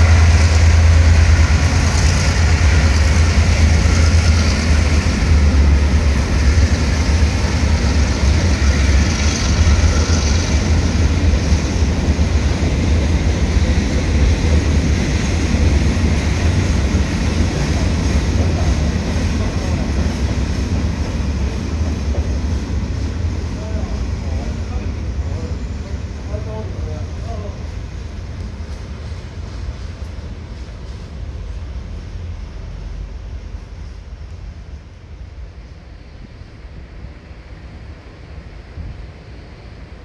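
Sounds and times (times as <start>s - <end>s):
locomotive low rumble: 0.0s - 40.0s
train wheels rolling on rails: 0.0s - 40.0s.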